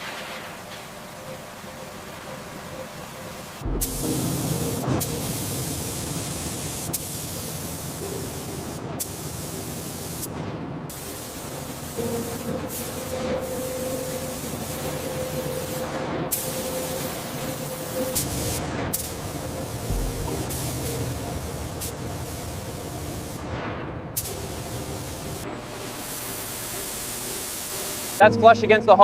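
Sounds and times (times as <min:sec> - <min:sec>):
spray hissing: 0:00.1 - 0:23.5, 0:24.2 - 0:28.2.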